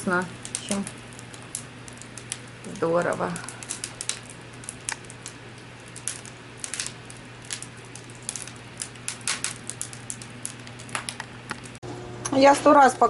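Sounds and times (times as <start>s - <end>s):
crackling pops: 0.0s - 12.4s
steady low hum: 0.0s - 13.0s.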